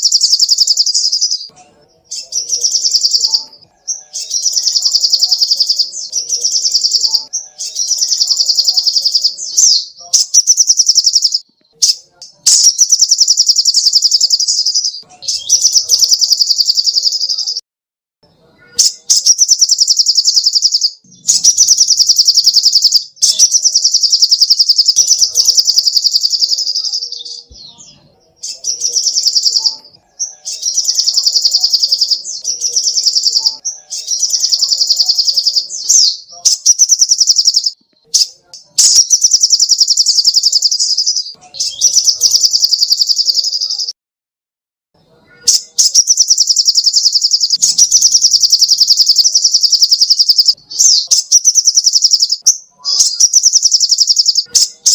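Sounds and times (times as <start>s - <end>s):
bird trilling chatter: 0.0s - 17.6s, 18.6s - 43.9s, 45.3s - 54.9s.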